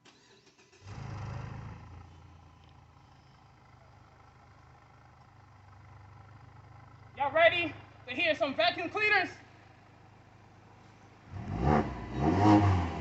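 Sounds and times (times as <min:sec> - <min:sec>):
car engine starting and idling: 0:00.0 - 0:13.0.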